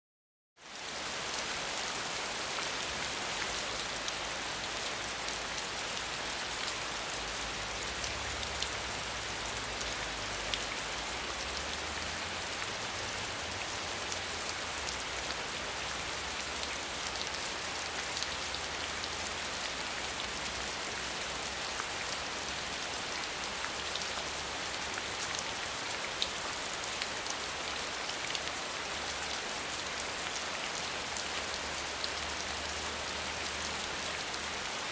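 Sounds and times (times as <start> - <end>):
rain falling on ground: 0.6 - 34.9.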